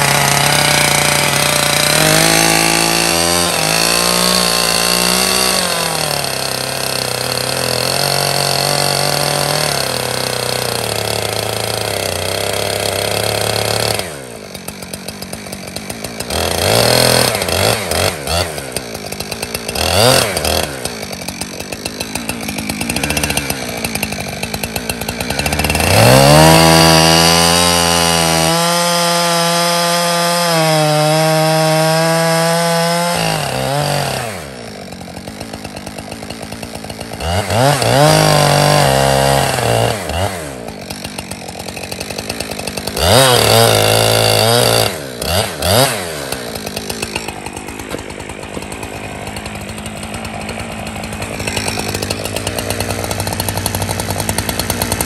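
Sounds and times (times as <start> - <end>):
chainsaw cutting tree trunk: 0.0 - 55.0
chainsaw idling and revving: 0.0 - 55.0.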